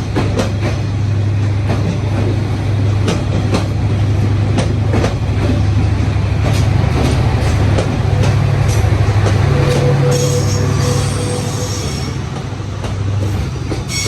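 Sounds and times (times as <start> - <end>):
train coaches rolling past: 0.0 - 14.0.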